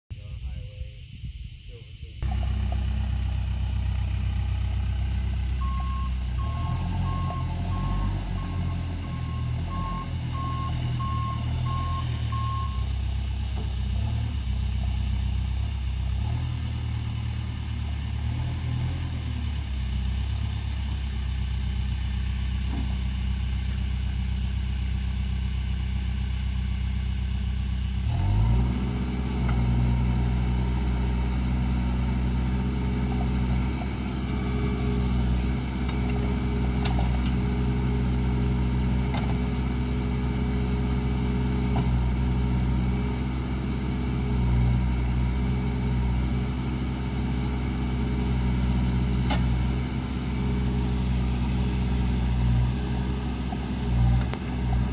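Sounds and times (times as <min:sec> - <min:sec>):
diesel engine idling and revving: 0:00.2 - 0:54.9.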